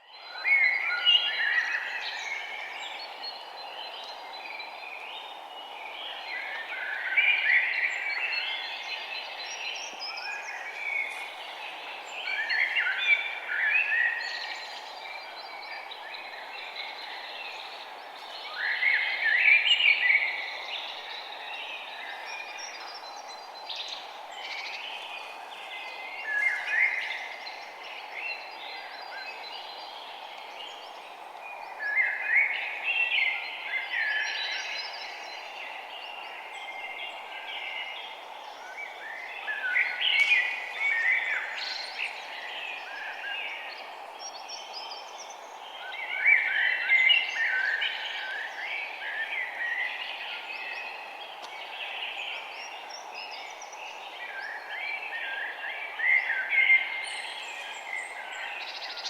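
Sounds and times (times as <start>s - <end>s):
small birds chirping and trilling: 0.0s - 59.0s
background hiss: 0.2s - 59.0s.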